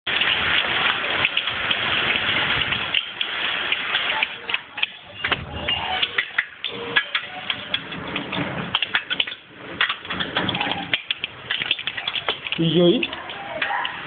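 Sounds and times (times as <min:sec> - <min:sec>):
hailstones pelting down: 0:00.1 - 0:14.0.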